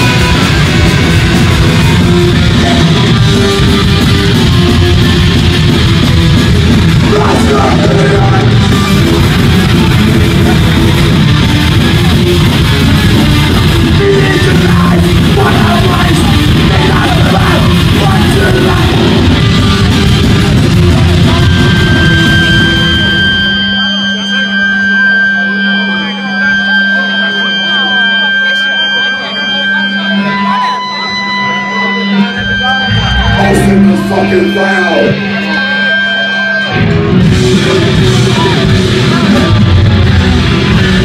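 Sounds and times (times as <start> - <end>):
punk band playing live: 0.0 - 41.0.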